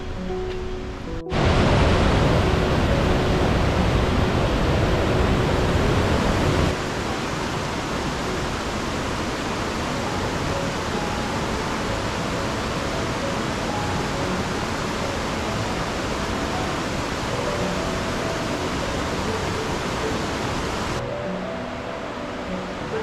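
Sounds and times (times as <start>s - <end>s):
river rushing over rapids: 0.9s - 23.0s.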